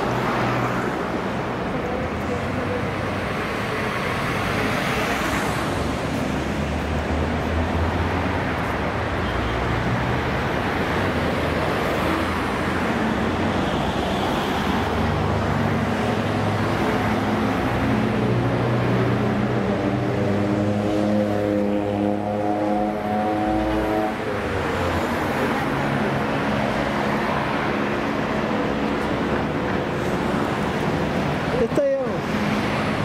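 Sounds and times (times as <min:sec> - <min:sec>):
tyre and traffic noise: 0:00.0 - 0:33.0.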